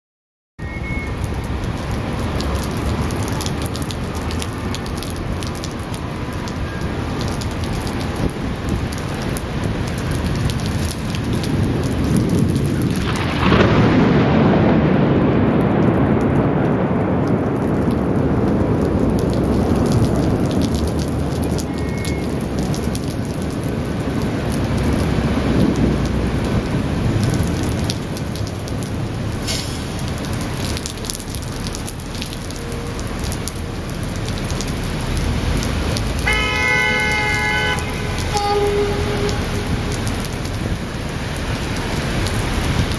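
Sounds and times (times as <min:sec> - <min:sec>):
steady rain: 0:00.6 - 0:42.9
thunder crack and rumble: 0:01.0 - 0:42.9.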